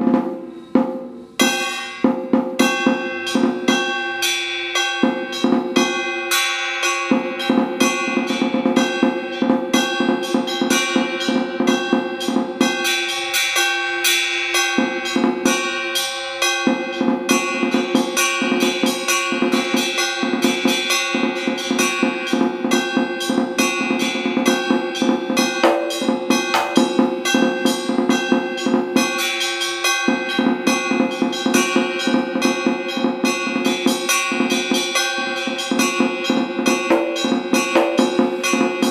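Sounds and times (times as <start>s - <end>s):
battle drum struck with sticks: 0.0s - 4.0s, 4.8s - 6.1s, 7.0s - 13.7s, 14.6s - 38.9s.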